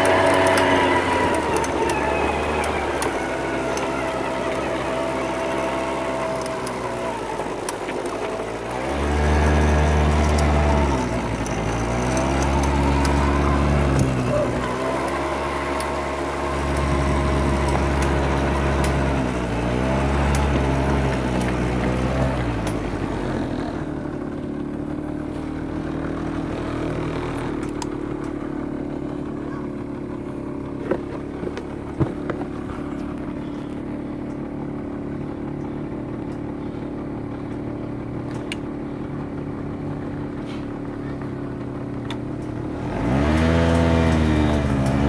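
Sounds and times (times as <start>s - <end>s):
quad bike engine revving: 0.0s - 45.0s.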